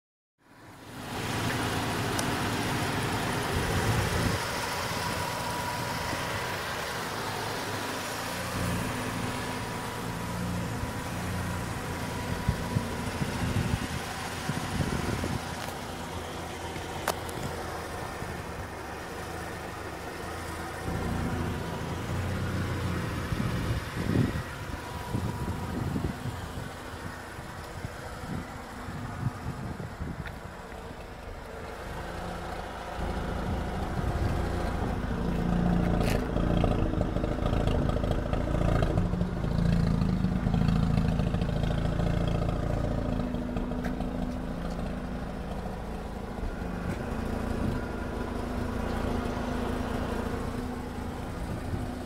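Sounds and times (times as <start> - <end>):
rotary engine idling: 1.1 - 52.0.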